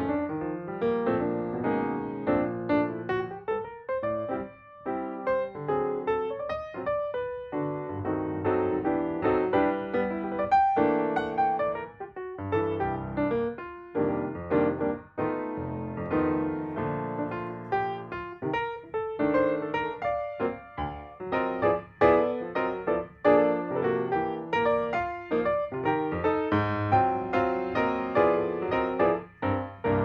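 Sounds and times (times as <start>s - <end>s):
gentle keyboard melody with chords: 0.0s - 30.0s.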